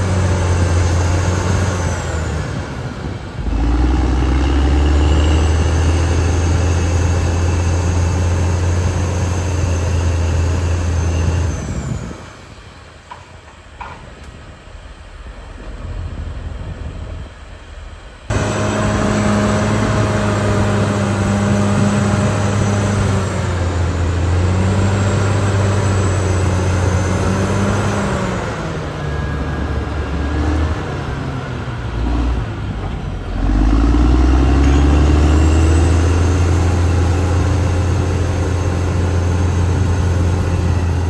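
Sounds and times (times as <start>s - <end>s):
bulldozer diesel engine: 0.0s - 41.0s.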